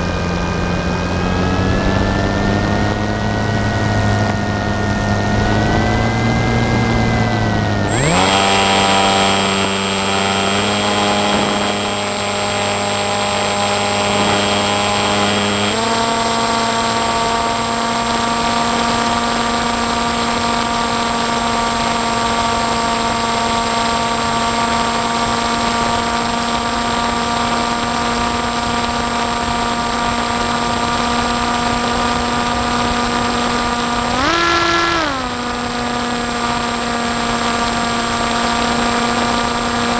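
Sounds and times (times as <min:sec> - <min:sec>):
drone motor whine: 0:00.0 - 0:39.9.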